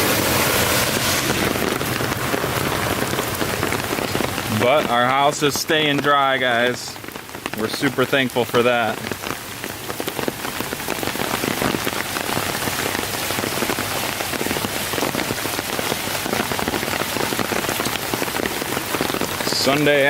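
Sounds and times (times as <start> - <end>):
steady rain patter: 0.0 - 20.0.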